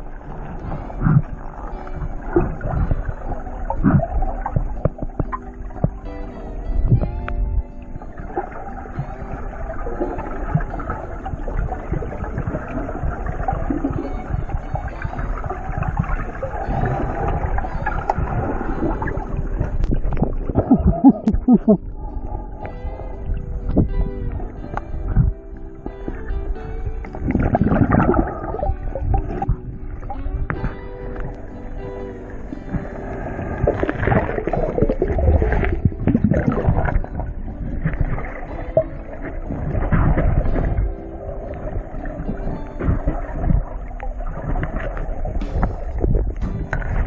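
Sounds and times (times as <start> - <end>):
acoustic guitar music: 0.0 - 47.0
wind and water noise: 0.0 - 47.0.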